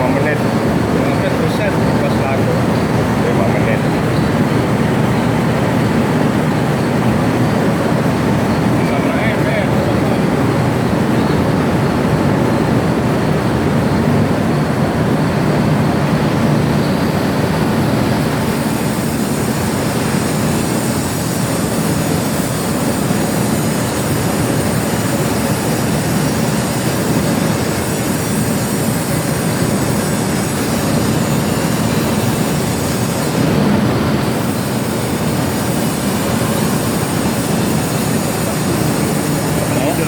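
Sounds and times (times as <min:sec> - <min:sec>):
high whine from cutting: 0:00.0 - 0:40.0
metal lathe machining noise: 0:00.0 - 0:40.0.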